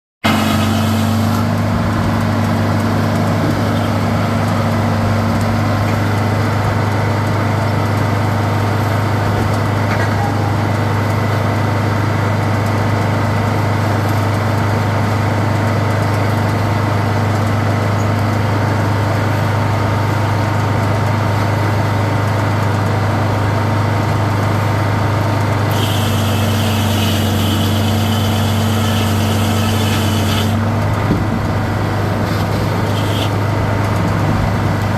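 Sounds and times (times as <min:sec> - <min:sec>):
sawmill engine drone: 0:00.2 - 0:34.9.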